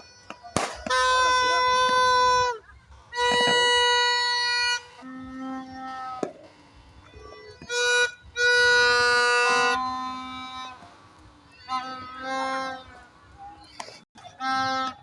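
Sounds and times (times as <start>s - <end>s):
reedy horn-like tones: 0.0s - 15.0s.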